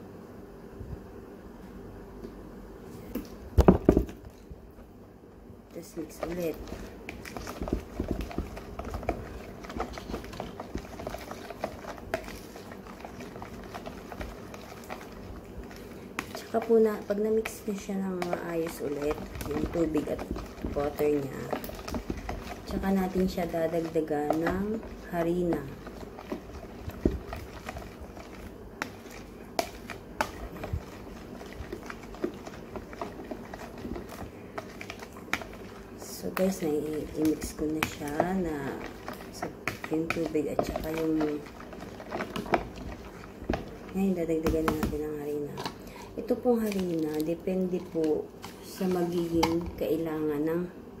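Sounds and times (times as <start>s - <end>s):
low steady hum: 0.0s - 51.0s
wet mixture squelching in bowl: 5.7s - 50.1s
spoon stirring dough: 5.8s - 50.1s.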